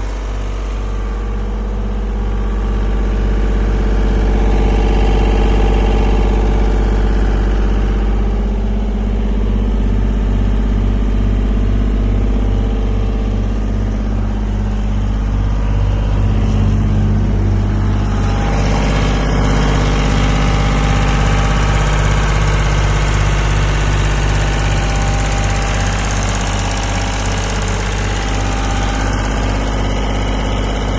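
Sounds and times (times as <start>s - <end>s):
air compressor engine running: 0.0s - 30.9s.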